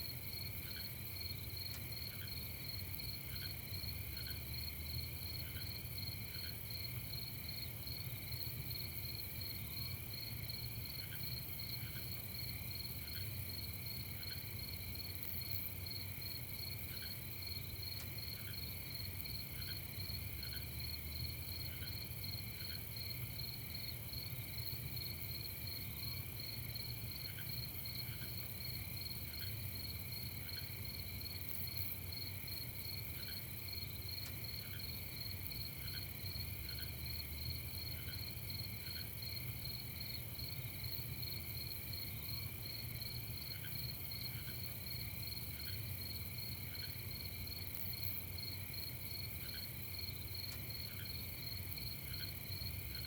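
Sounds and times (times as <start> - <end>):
crickets trilling: 0.1 - 53.0.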